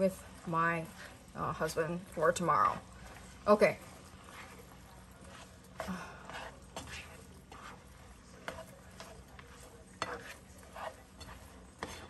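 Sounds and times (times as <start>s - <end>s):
plastic spatula scraping frying pan: 0.0s - 12.0s.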